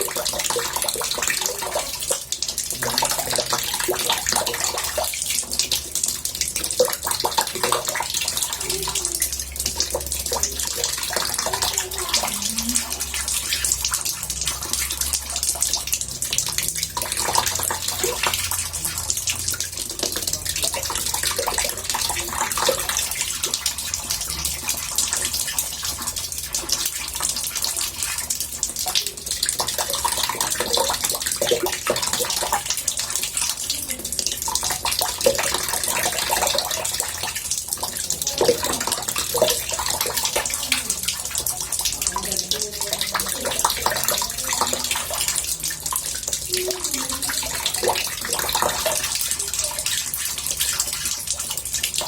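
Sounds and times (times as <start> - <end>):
tap water filling bathtub: 0.0 - 52.0.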